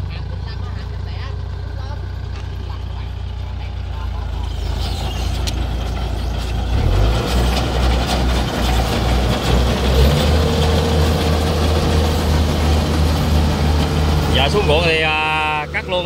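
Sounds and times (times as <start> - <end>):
combine harvester diesel engine: 0.0 - 16.0.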